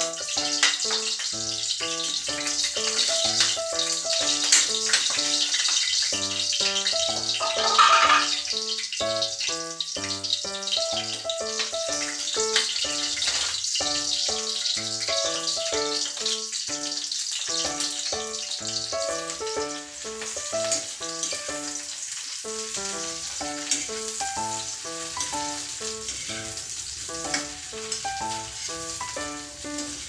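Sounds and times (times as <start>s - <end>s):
melodic background music: 0.0s - 5.4s, 6.2s - 13.2s, 13.8s - 16.2s, 17.5s - 21.8s, 22.5s - 30.0s
eggplant sizzling in oil: 0.0s - 30.0s.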